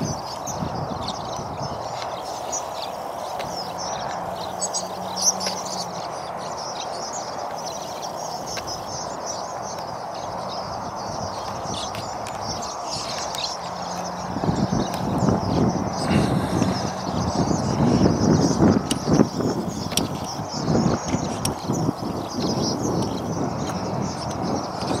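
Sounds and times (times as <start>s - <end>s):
swallows twittering: 0.0s - 25.0s.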